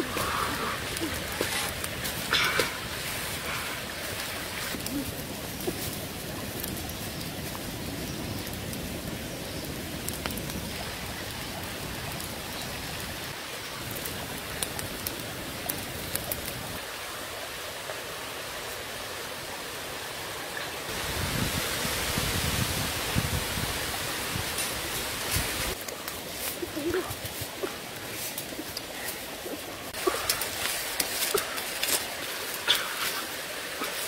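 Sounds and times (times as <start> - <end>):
wood fire crackling: 0.0 - 18.9, 20.0 - 34.0.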